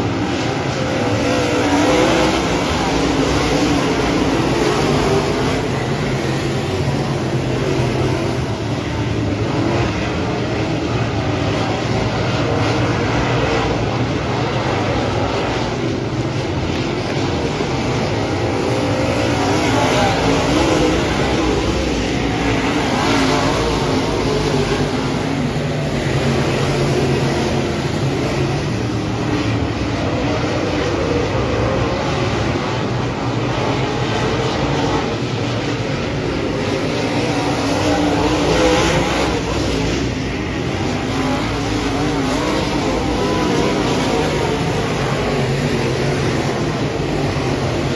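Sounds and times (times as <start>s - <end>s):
race car engines: 0.0s - 47.9s.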